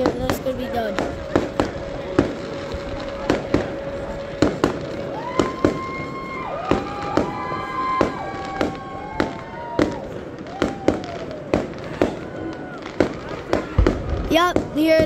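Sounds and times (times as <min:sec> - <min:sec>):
firework whistles: 0:00.0 - 0:14.4
fireworks bangs: 0:00.0 - 0:15.0.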